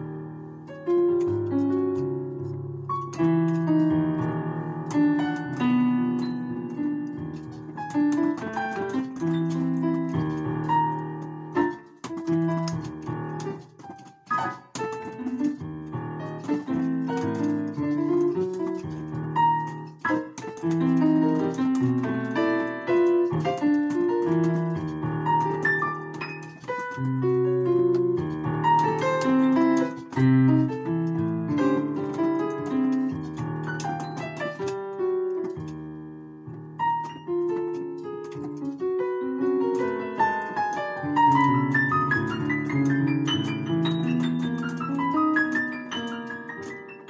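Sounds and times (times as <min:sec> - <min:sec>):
piano playing runs and chords: 0:00.0 - 0:47.0.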